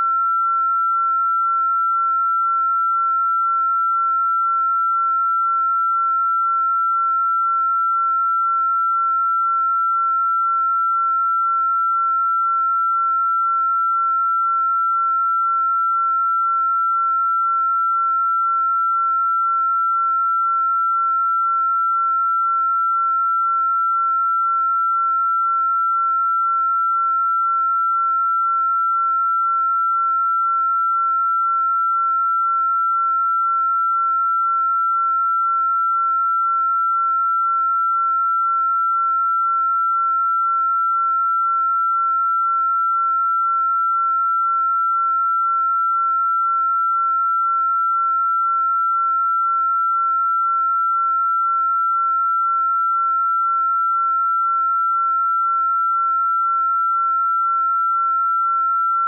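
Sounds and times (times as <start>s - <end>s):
electronic sine tone: 0.0s - 59.0s.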